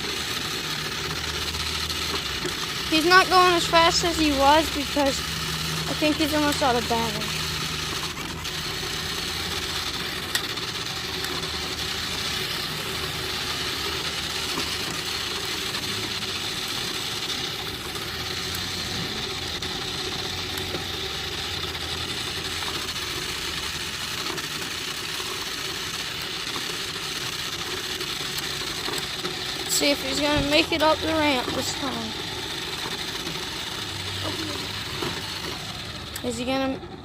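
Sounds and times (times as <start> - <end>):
toy car motor whirring: 0.0 - 37.0.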